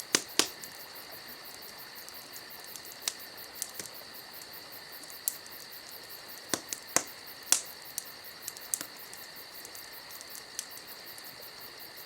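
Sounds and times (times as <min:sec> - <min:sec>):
wood fire crackling and popping: 0:00.0 - 0:11.6
crickets chirping: 0:00.0 - 0:12.0.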